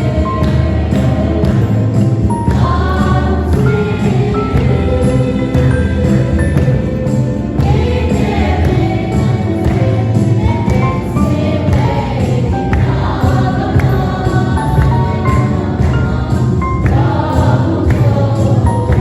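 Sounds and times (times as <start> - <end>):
choir singing: 0.0 - 19.0
instrumental backing with steady beat: 0.0 - 19.0.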